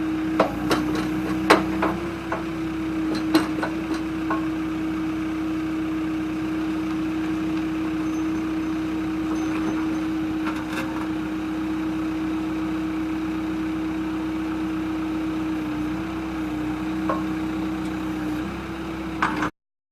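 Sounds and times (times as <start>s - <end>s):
diesel engine running: 0.0s - 19.5s.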